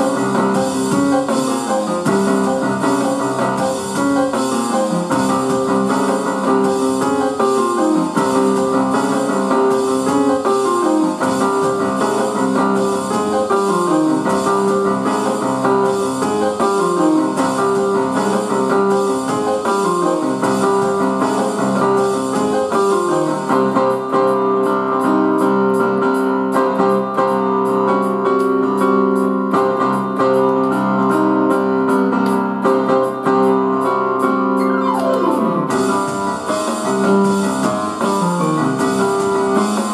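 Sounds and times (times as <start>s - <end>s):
electronic keyboard piano chords: 0.0s - 39.9s.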